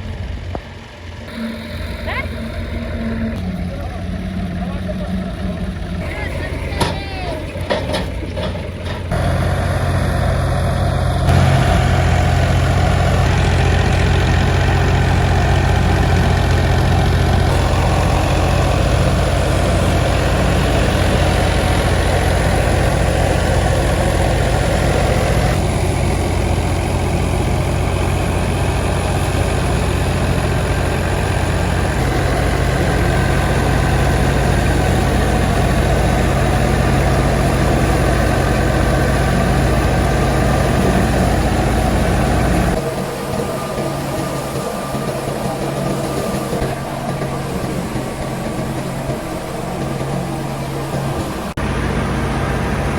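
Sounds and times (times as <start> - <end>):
wheat thresher running: 0.0 - 52.9.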